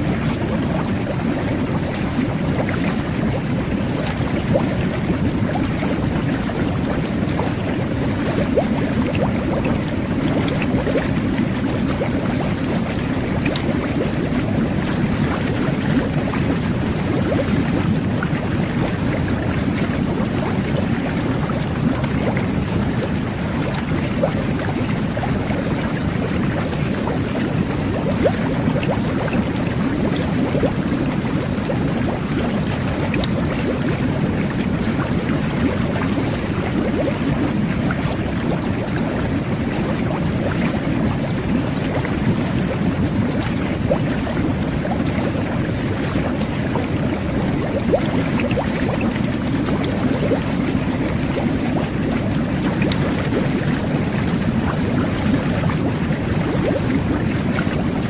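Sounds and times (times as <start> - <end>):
jet bath bubbling: 0.0 - 58.0.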